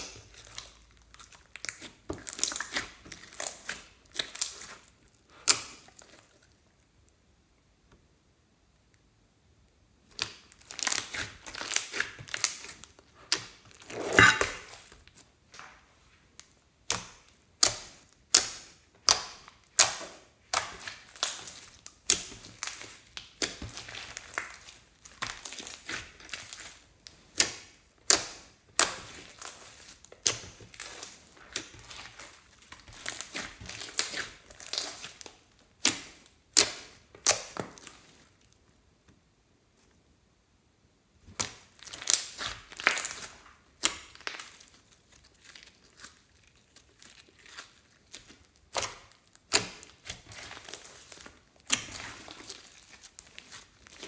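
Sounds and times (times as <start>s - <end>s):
slime squishing and popping: 0.0s - 6.1s, 10.0s - 15.2s, 16.4s - 38.2s, 41.2s - 54.0s.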